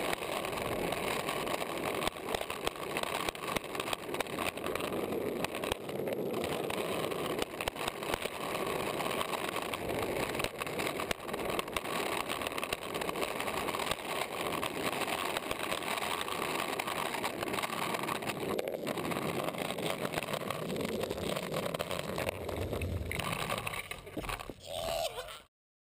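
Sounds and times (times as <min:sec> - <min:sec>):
skateboard wheels rolling on asphalt: 0:00.0 - 0:25.4.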